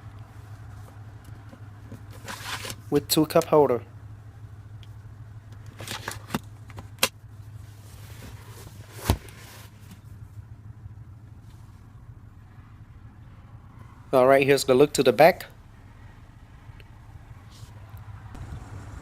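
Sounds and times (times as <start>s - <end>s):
car cabin low hum: 0.0s - 19.0s.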